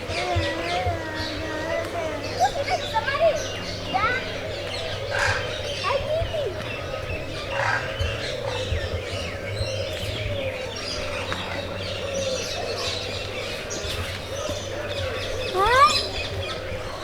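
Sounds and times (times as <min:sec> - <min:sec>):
birds chirping in chorus: 0:00.0 - 0:17.0.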